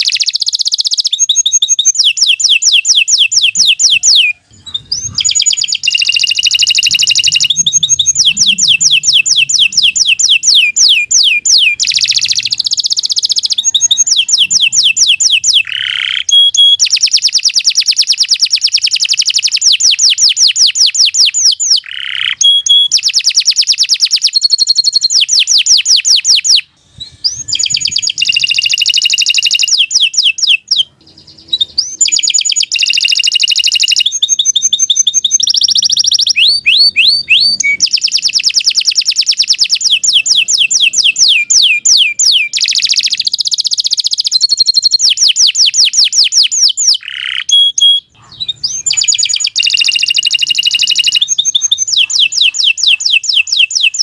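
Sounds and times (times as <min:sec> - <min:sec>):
canary singing high trills: 0:00.0 - 0:54.0.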